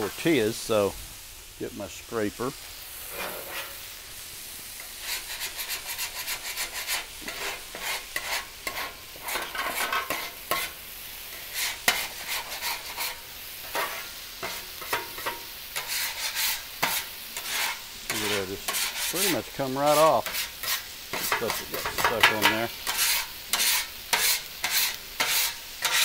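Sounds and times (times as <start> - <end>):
food sizzling: 0.0 - 26.0
scraper scraping steel griddle: 3.0 - 3.9, 4.8 - 26.0.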